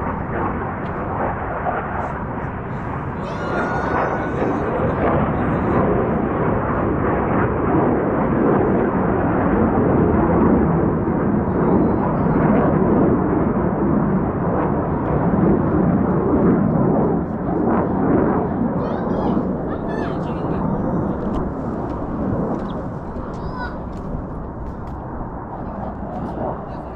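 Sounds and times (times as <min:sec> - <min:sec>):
jet engine rush: 0:00.0 - 0:26.9.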